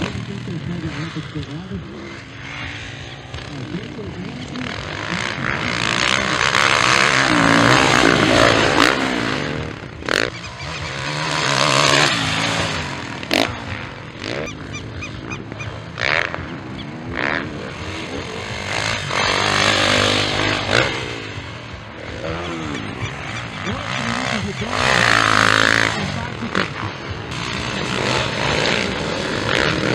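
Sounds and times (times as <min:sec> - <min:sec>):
motocross bike engines revving: 0:00.0 - 0:29.9.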